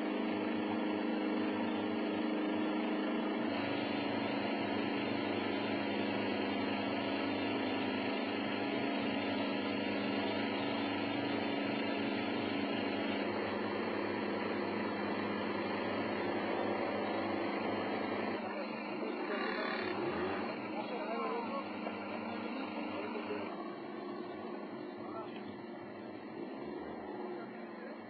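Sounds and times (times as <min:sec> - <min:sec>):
engine drone: 0:00.0 - 0:28.0.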